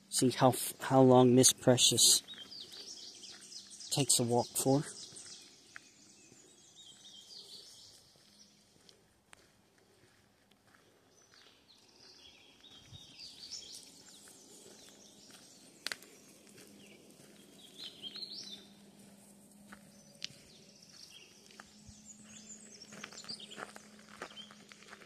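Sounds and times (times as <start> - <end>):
faint songbird chirps: 0.0 - 25.0.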